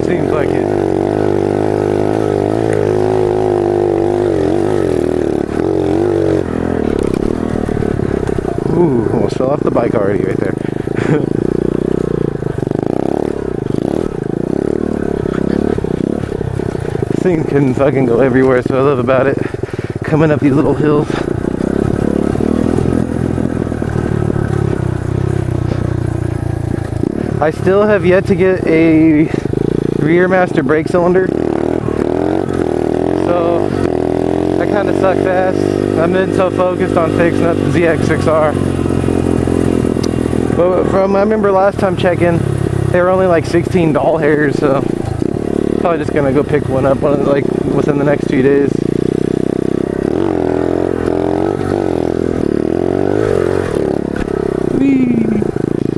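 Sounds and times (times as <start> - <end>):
small motorbike engine running: 0.0 - 55.9.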